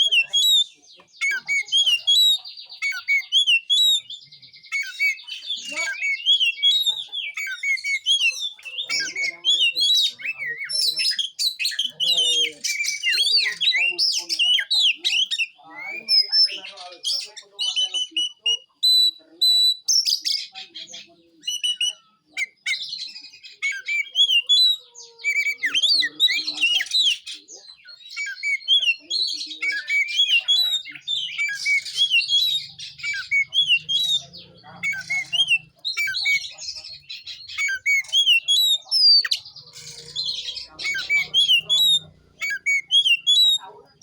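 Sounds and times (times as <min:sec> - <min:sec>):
bird singing: 0:00.0 - 0:44.0.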